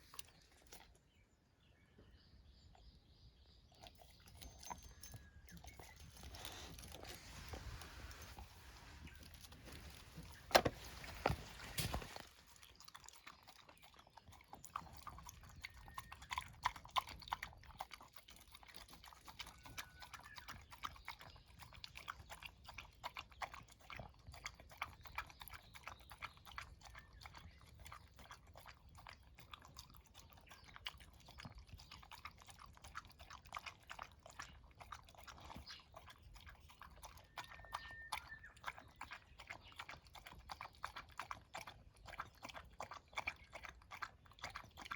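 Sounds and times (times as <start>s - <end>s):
pet chewing crunchy food: 0.0s - 1.2s, 3.7s - 44.9s.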